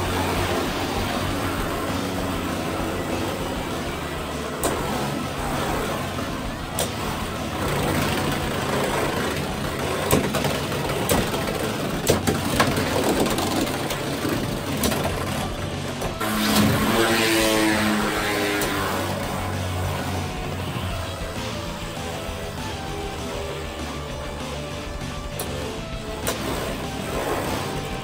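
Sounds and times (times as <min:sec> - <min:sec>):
music with held notes: 0:00.0 - 0:28.0
spinning tops whirring: 0:00.0 - 0:28.0.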